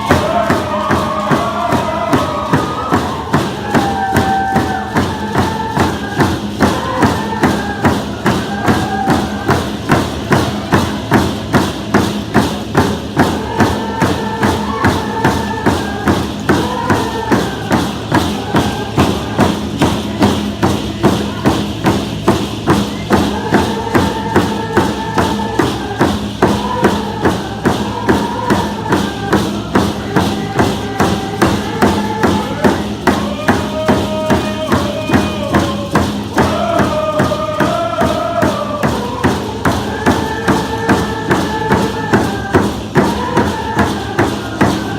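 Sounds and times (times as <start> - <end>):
group singing in unison: 0.0 - 44.9
hand drum beat: 0.0 - 44.9.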